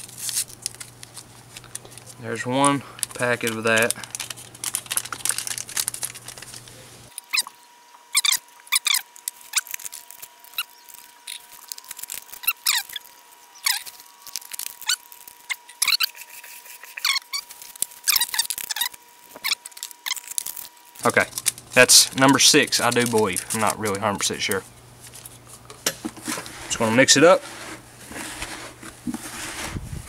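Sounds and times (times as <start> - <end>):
paper packets crinkling and tearing: 0.0 - 7.4, 8.2 - 25.6.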